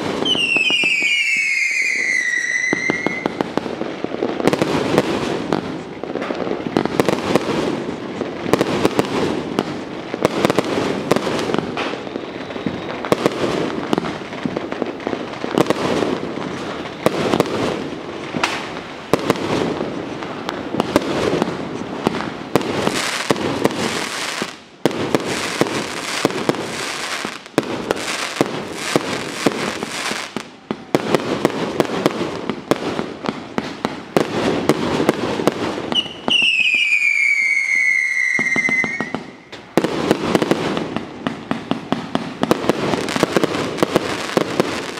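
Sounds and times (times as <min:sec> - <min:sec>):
firecrackers crackling: 0:00.0 - 0:44.9
firework bangs: 0:00.0 - 0:44.9.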